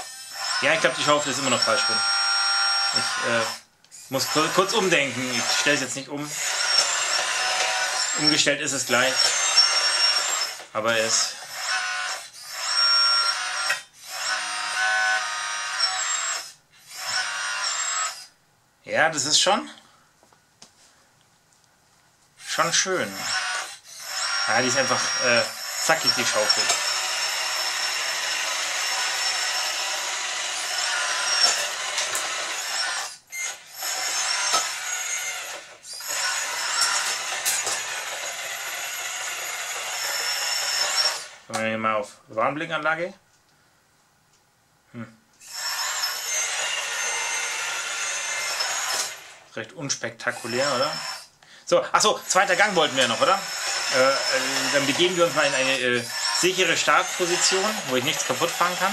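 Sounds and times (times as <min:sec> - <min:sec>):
hydraulic pump whining: 0:00.0 - 0:18.3, 0:22.4 - 0:41.4, 0:45.4 - 0:49.4, 0:52.2 - 0:58.9.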